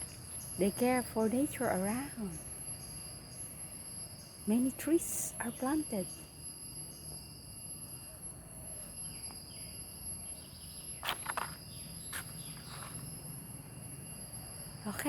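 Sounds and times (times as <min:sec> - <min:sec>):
high-pitched insects: 0:00.0 - 0:15.0.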